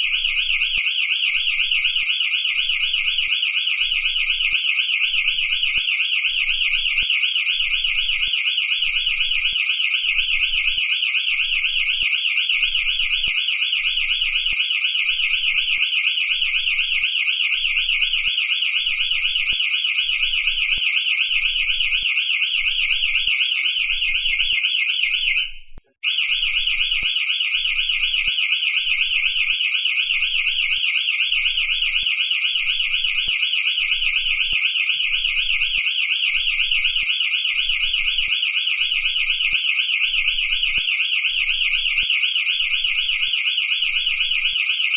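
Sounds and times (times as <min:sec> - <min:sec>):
warbling electronic alarm: 0:00.0 - 0:44.9.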